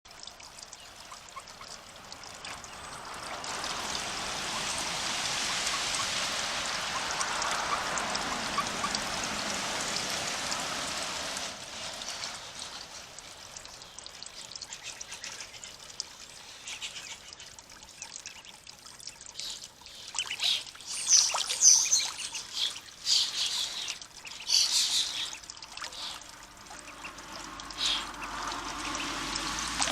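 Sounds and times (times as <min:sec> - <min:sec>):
water trickling and splashing: 0:00.0 - 0:29.9
short sharp high splashes: 0:01.0 - 0:15.4, 0:19.0 - 0:29.9.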